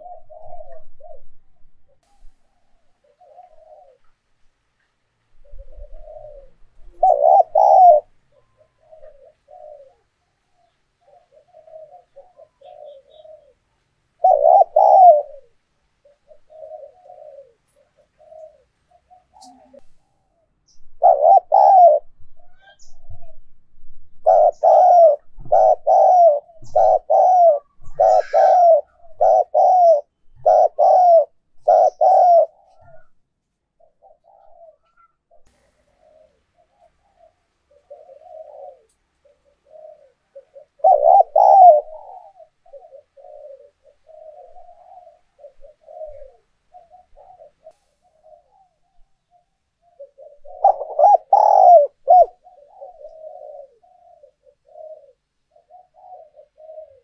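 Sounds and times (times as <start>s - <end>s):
dove cooing: 0.0s - 20.0s, 20.7s - 57.0s.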